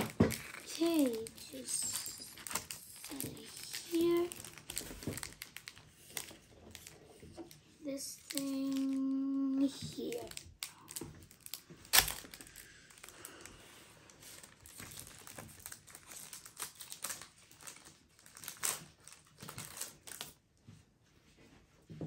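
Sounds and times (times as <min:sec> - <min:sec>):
foil wrapper crinkling: 0:00.0 - 0:20.4
small clicks and rustles: 0:00.0 - 0:20.8.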